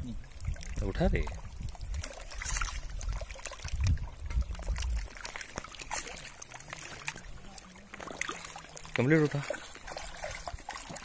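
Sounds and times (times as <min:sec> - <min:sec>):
small drips and splashes: 0:00.0 - 0:11.0
water splashing and trickling: 0:00.0 - 0:11.0.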